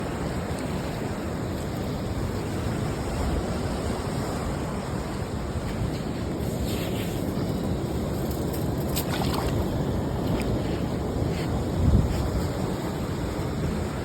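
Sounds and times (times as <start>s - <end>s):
ocean surf rushing: 0.0s - 14.0s
wind buffeting the microphone: 0.0s - 14.0s.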